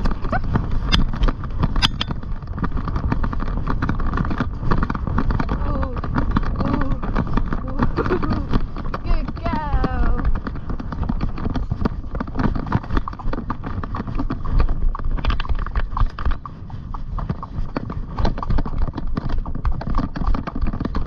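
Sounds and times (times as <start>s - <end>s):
pony hoofbeats: 0.0s - 21.0s.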